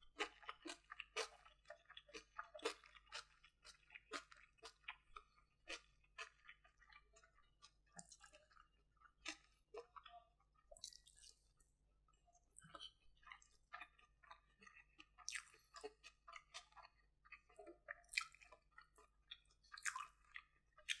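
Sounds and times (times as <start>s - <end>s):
crunchy chewing: 0.2s - 10.1s, 12.6s - 21.0s.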